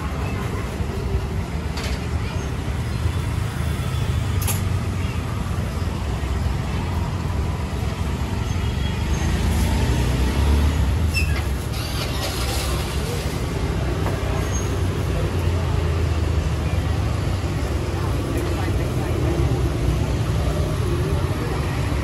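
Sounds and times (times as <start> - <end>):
faint voices: 0.0 - 22.0
passing traffic rumble: 0.0 - 22.0.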